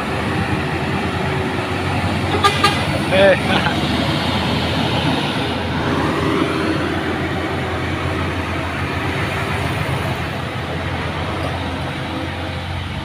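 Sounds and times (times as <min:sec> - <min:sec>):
truck diesel engines under load: 0:00.0 - 0:13.0
tyre and road noise: 0:00.0 - 0:13.0.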